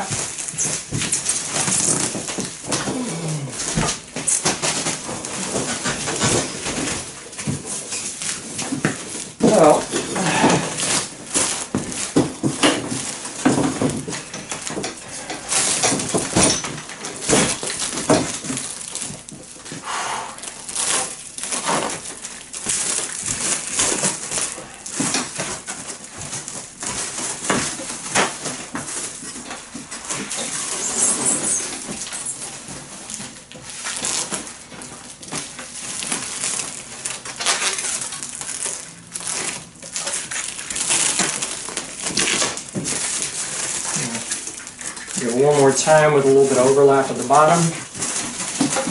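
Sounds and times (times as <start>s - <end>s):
stretch wrap crackling and rustling: 0.0s - 48.9s.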